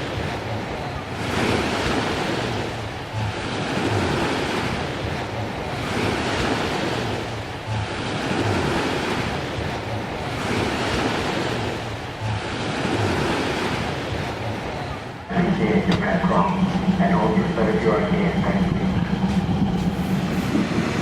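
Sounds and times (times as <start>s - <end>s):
sea waves breaking on beach: 0.0s - 21.0s
wind buffeting microphone: 0.0s - 21.0s.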